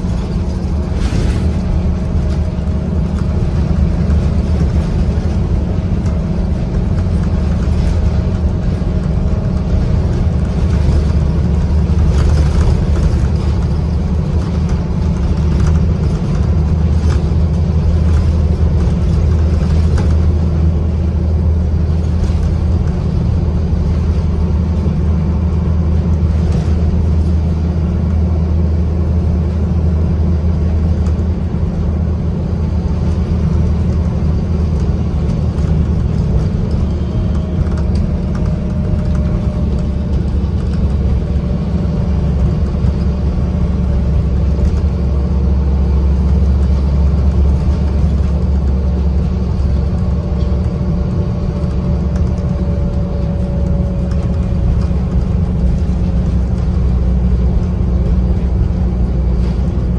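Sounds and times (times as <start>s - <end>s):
bus diesel engine droning: 0.0s - 59.9s
road and tyre noise: 0.0s - 59.9s.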